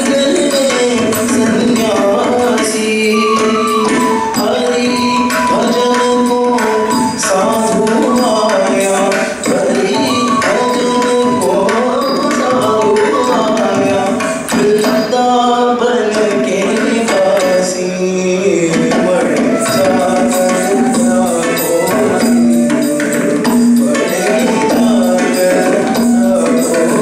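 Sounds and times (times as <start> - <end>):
hand-drum strokes: 0.0 - 27.0
person singing: 0.0 - 27.0.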